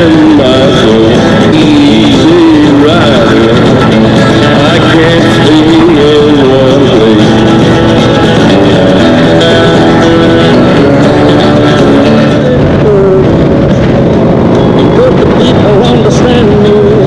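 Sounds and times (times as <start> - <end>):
loud guitar rock music: 0.0 - 17.0.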